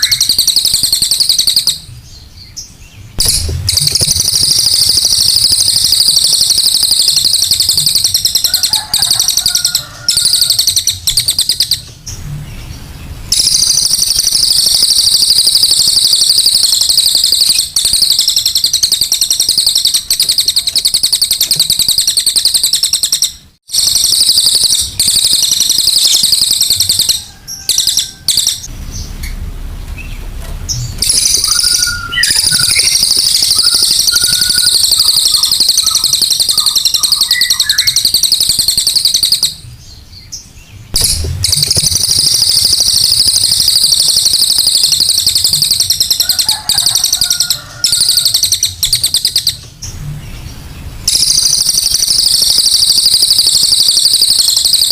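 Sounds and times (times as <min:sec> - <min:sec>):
bird trilling song: 0:00.0 - 0:54.9.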